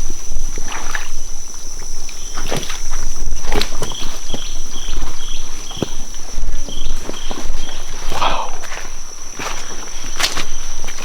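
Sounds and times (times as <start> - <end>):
high insect drone: 0.0 - 11.0
boots squelching through mud: 1.9 - 11.0.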